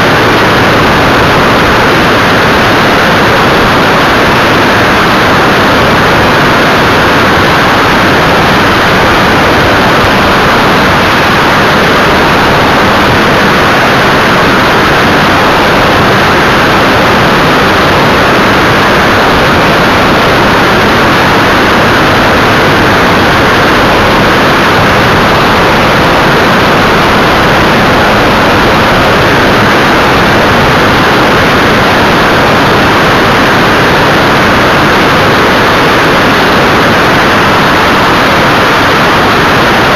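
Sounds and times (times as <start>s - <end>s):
aircraft engine and propeller: 0.0s - 39.9s
wind rushing over camera: 0.0s - 39.9s.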